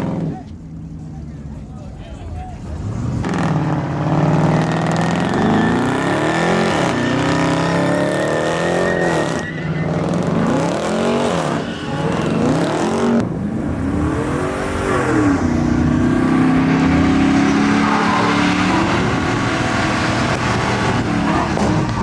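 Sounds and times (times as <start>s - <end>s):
truck engine revving: 0.0s - 1.6s, 2.4s - 22.0s.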